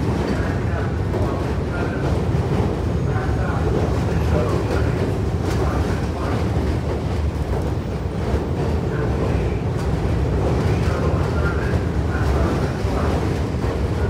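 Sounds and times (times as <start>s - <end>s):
subway train on rails: 0.0s - 14.0s.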